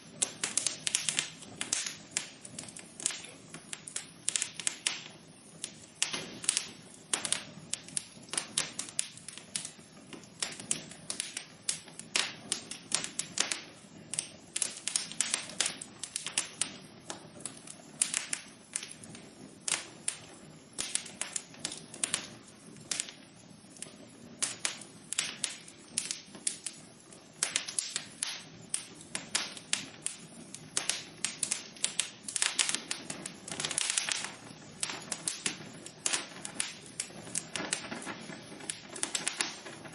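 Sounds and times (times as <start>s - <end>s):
low hiss of burning: 0.0s - 39.9s
wood fire crackling: 0.0s - 39.9s.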